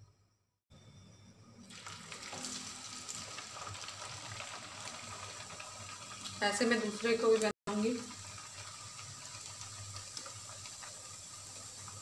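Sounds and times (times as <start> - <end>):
food sizzling in oil: 1.0 - 12.0.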